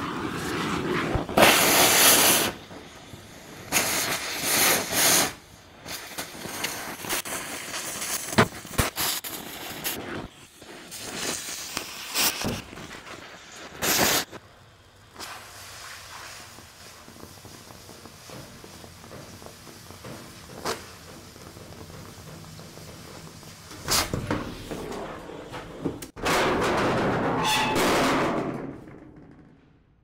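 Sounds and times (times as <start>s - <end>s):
cutting torch hissing: 0.0s - 26.2s
torch pops and crackles: 0.0s - 26.6s.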